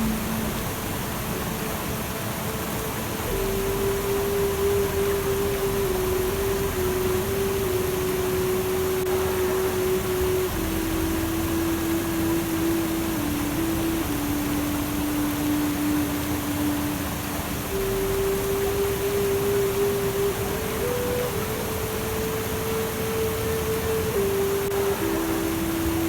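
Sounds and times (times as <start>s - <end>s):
soft relaxation music: 0.0s - 26.0s
steady rushing hiss: 0.0s - 26.0s.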